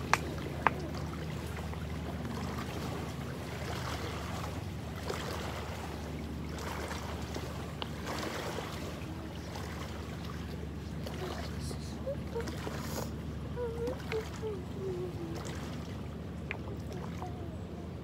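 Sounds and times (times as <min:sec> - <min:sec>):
engine humming: 0:00.0 - 0:18.0
water noise: 0:00.0 - 0:18.0
wind: 0:00.0 - 0:18.0.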